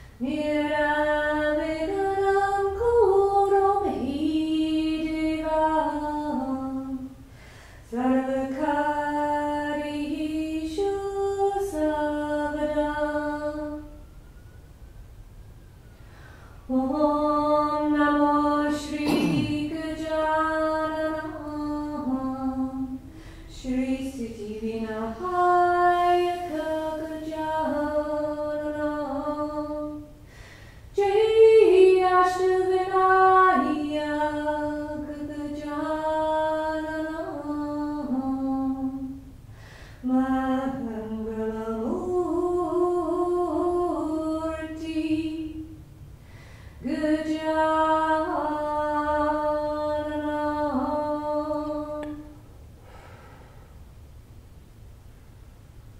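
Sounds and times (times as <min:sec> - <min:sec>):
woman singing unaccompanied chant: 0:00.0 - 0:14.1, 0:16.7 - 0:30.3, 0:30.9 - 0:39.4, 0:40.0 - 0:45.9, 0:46.8 - 0:52.4.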